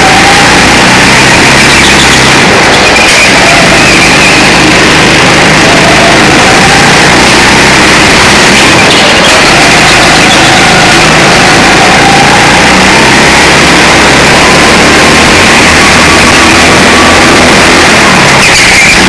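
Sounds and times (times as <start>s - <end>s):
go-kart engine revving: 0.0s - 19.0s.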